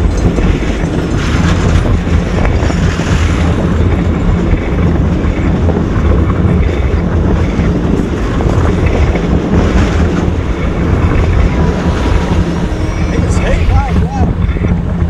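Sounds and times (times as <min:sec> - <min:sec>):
steel wheels rumbling on rail: 0:00.0 - 0:15.0
wind buffeting microphone: 0:00.0 - 0:15.0.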